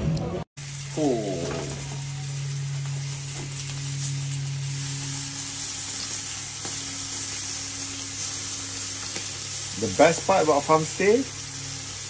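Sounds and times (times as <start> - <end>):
low steady hum: 0.0 - 12.0
meat sizzling on a grill: 0.6 - 12.0.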